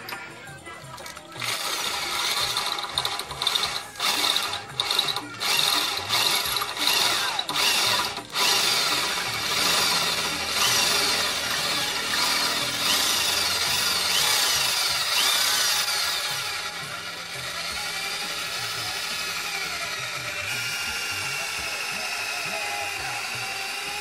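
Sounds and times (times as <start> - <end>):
electric drill grinding metal: 0.0 - 24.0.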